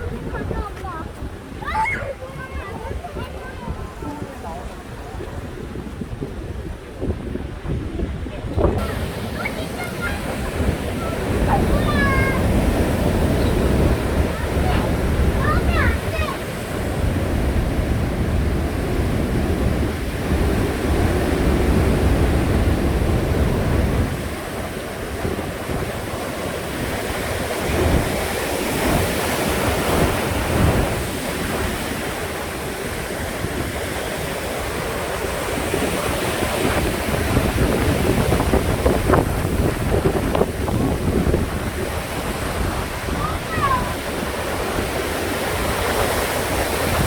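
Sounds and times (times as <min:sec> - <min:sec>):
rough surf crashing: 0:00.0 - 0:47.0
wind buffeting microphone: 0:00.0 - 0:47.0.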